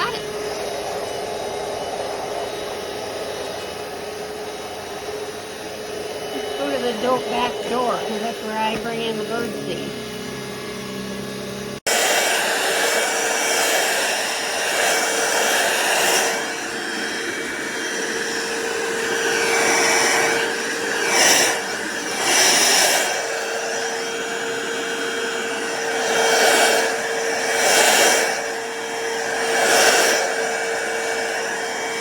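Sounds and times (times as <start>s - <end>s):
stick vacuum motor whine: 0.0s - 32.0s.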